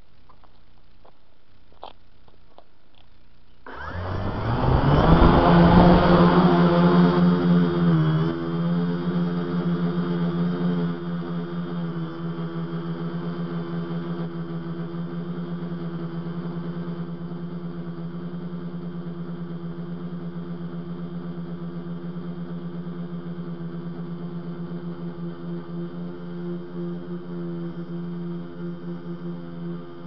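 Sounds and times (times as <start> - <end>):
drone motors humming: 0.0 - 30.0.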